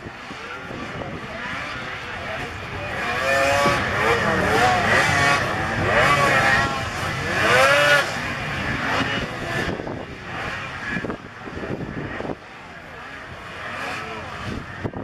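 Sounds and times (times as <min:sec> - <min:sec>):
snowmobile engines revving: 0:00.0 - 0:15.0.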